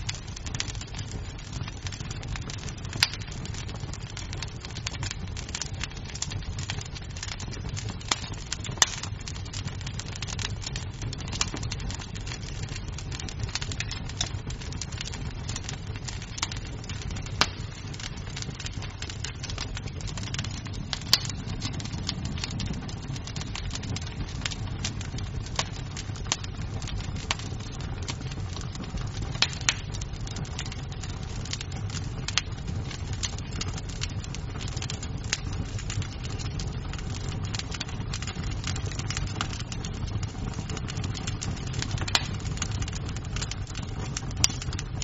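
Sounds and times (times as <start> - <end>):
low rumble of fire burning: 0.0 - 45.0
wood snapping and popping: 0.1 - 45.0.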